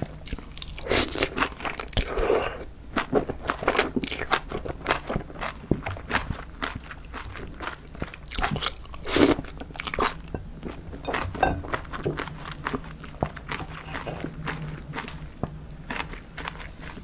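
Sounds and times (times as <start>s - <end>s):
crunchy chewing: 0.0s - 17.0s.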